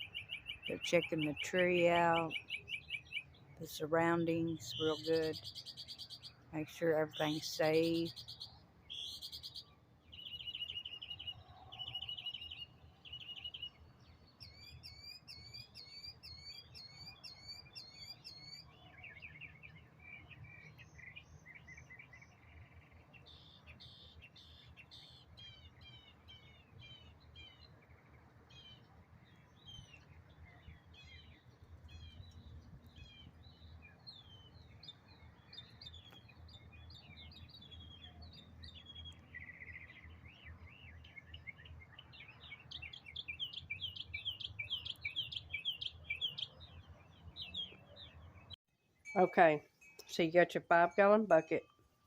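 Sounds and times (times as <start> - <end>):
songbirds chirping: 0.0 - 52.0.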